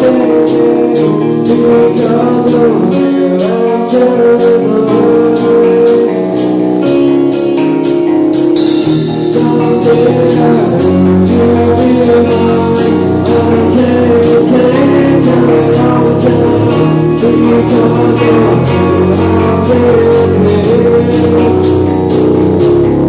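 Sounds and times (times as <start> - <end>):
drums keeping steady beat: 0.0 - 23.0
live band playing amplified music: 0.0 - 23.0.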